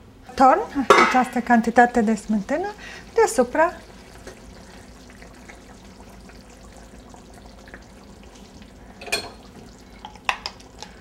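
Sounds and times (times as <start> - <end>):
sauce sizzling in a pan: 0.5 - 11.0.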